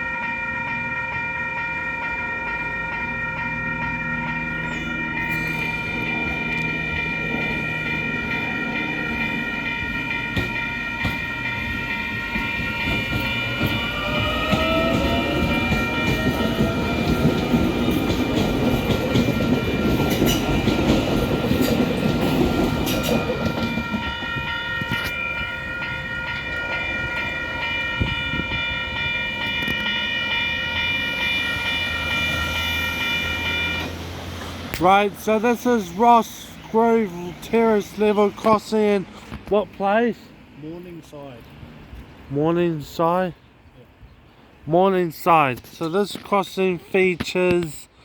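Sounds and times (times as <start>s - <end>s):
crossing bells ringing: 0.0s - 41.6s
train rumble and wheel clatter: 0.0s - 48.0s.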